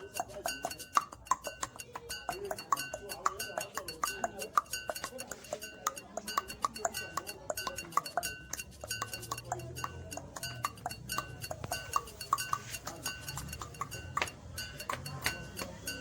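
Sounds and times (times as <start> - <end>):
rapid tongue clicks: 0.0 - 16.0.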